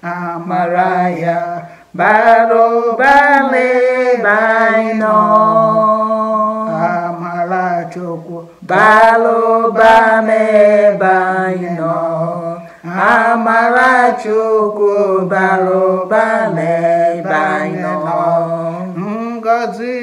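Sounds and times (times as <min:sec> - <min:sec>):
women singing a hymn: 0:00.0 - 0:19.1.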